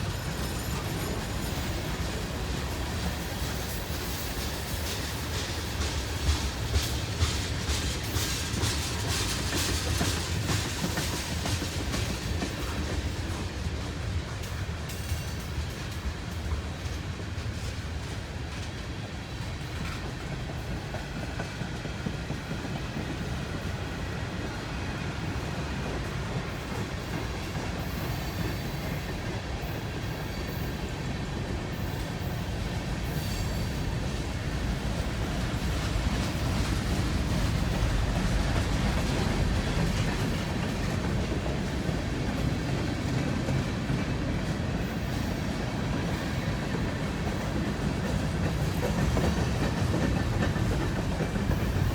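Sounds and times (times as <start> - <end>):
freight train rolling on rails: 0.0 - 51.9.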